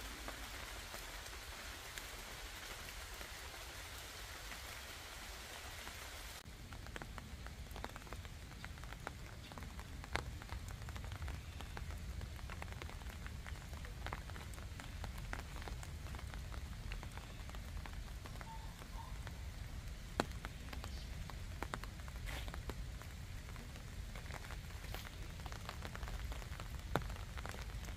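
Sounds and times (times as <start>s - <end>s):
raindrops ticking: 0.0s - 27.9s.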